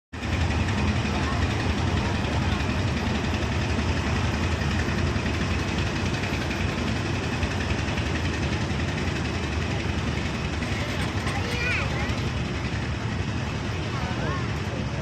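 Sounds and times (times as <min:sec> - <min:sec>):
engine idling: 0:00.2 - 0:15.0.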